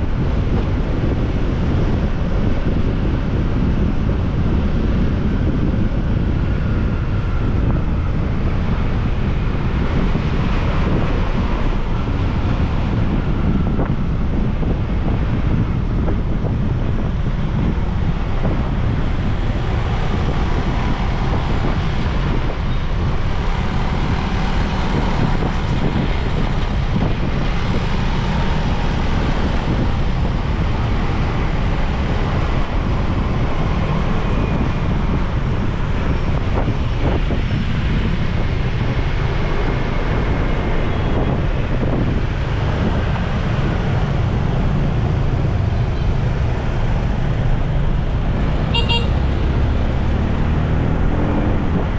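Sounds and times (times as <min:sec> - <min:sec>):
road and traffic noise: 0:00.0 - 0:51.9
wind rumbling on microphone: 0:00.0 - 0:51.9.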